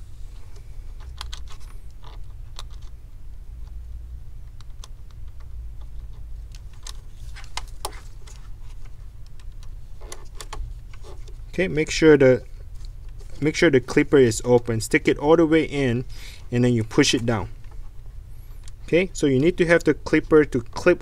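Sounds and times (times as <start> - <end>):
steady low hum: 0.0 - 21.0
cable clicks and crinkles: 0.4 - 11.8, 12.6 - 15.2, 16.0 - 21.0.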